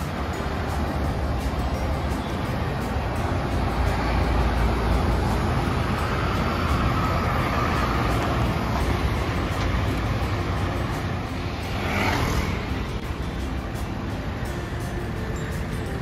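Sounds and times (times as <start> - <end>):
traffic driving past: 0.0 - 16.0.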